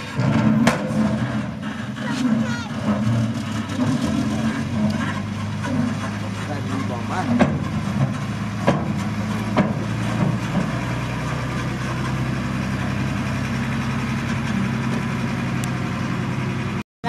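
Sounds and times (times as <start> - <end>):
truck diesel engine running: 0.0 - 16.8.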